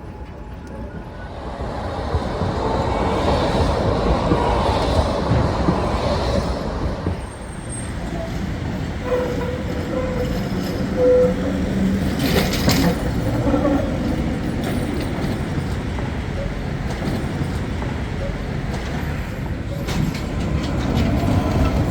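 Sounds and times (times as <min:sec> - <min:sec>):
street traffic: 0:00.0 - 0:21.9
tram rumbling along track: 0:00.0 - 0:21.9.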